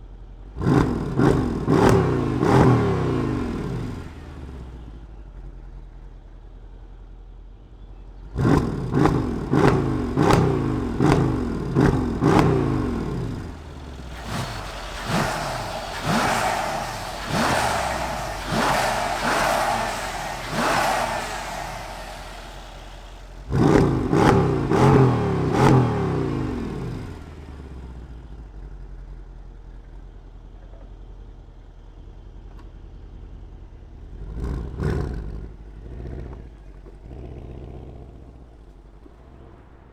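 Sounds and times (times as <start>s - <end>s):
car engine idling and revving: 0.0s - 7.1s, 7.8s - 38.3s.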